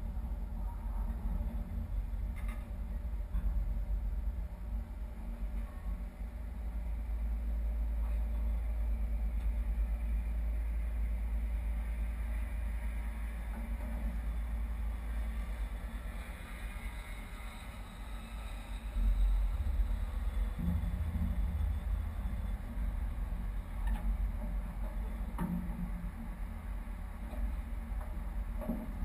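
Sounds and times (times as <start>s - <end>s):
boat diesel engines rumbling: 0.0s - 28.8s.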